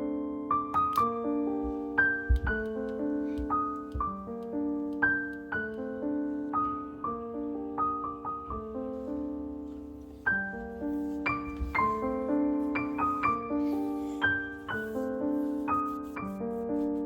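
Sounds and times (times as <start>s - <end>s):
soft solo piano music: 0.0s - 17.0s.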